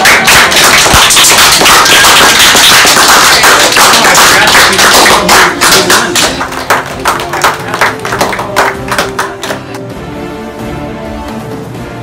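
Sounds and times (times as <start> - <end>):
people applauding: 0.0 - 9.9.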